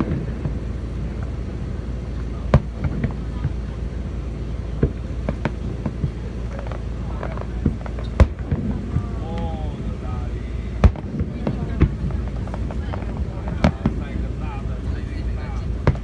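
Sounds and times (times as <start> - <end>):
faint crowd voices: 0.0 - 16.0
fireworks bangs: 0.0 - 16.0
steady low rumble: 0.0 - 16.0.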